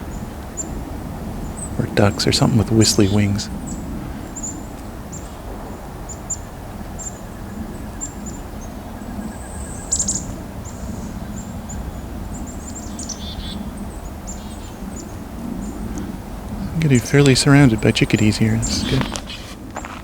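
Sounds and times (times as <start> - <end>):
chickadees calling: 1.4 - 5.4, 7.0 - 20.0.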